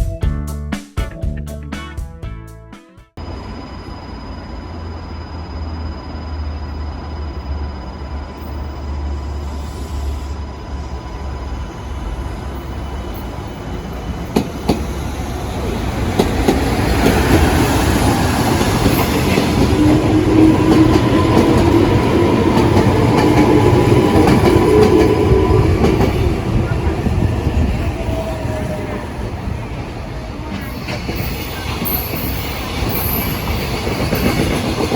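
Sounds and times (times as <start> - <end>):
train passing on rails: 3.2 - 34.9.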